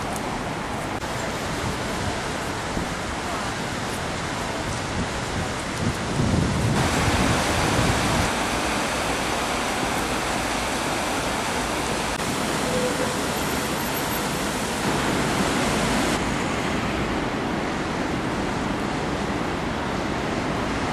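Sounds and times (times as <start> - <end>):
flooded river rushing: 0.0 - 20.9.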